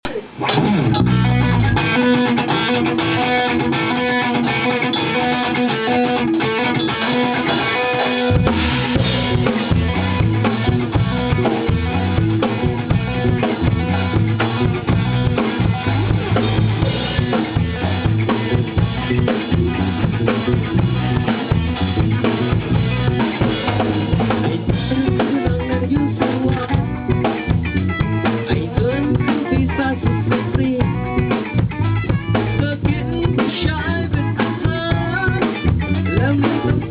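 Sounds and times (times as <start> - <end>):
bass guitar: 0.0 - 36.9
drum kit: 0.0 - 36.9
guitar: 0.0 - 36.9.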